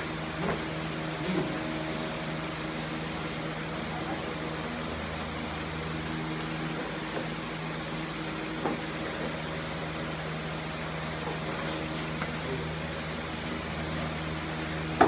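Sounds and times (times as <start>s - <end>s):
low ventilation hum: 0.0s - 15.0s.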